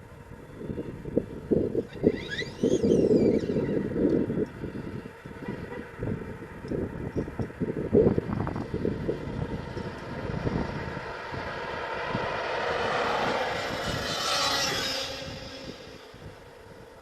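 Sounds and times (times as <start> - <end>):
rc truck motor and tyres: 0.0 - 17.0.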